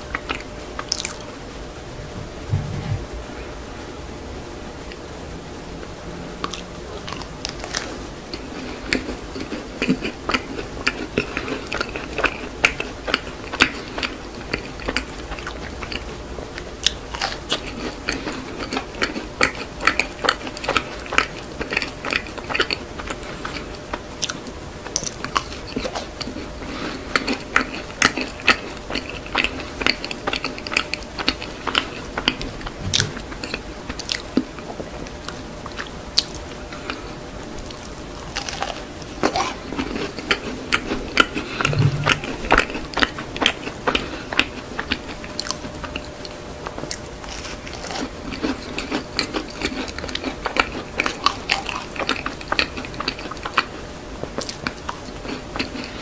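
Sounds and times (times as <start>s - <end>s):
crunching and chewing macarons: 0.0s - 1.4s, 6.4s - 56.0s.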